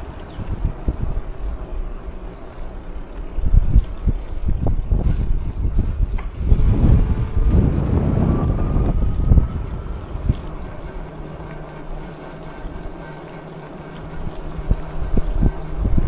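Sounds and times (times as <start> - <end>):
faint steady hum: 0.0 - 16.0
wind buffeting microphone: 0.0 - 16.0.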